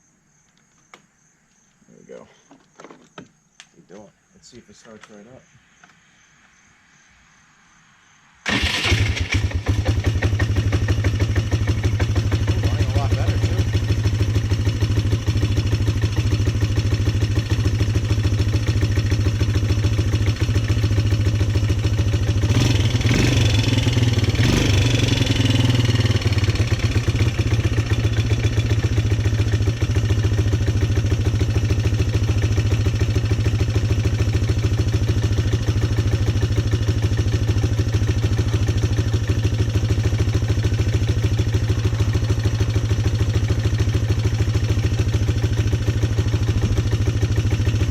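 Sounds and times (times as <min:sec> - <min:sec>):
engine idling and revving: 0:08.5 - 0:47.9.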